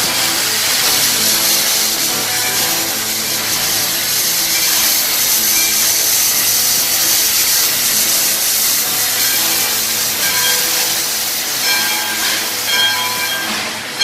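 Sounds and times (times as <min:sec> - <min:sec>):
steam engine hissing: 0:00.0 - 0:14.0.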